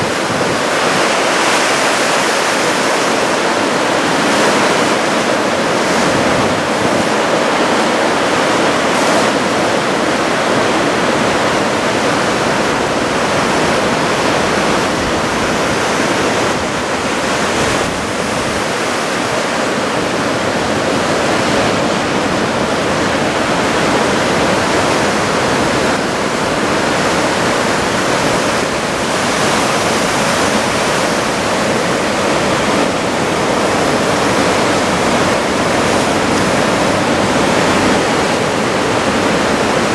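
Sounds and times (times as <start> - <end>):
surf breaking on shore: 0.0 - 39.9.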